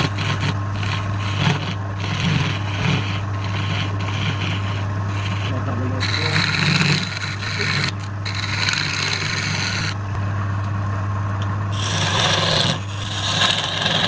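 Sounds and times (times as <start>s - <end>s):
tool rasping on spinning wood: 0.0s - 10.1s, 11.7s - 14.0s
wood lathe humming: 0.0s - 10.2s, 11.7s - 14.0s.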